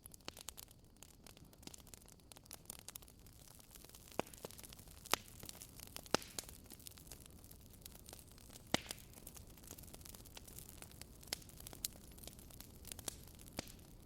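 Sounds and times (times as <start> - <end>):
soft steady hiss: 0.0 - 14.0
wood fire crackling: 0.0 - 14.0.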